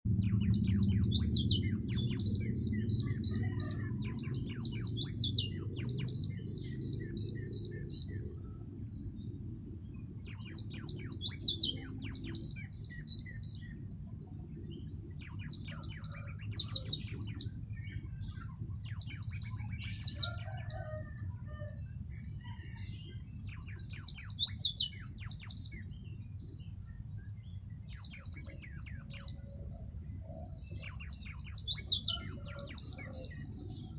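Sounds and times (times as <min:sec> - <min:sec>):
bird singing high twittering: 0:00.1 - 0:33.9
low steady rumble: 0:00.1 - 0:33.9.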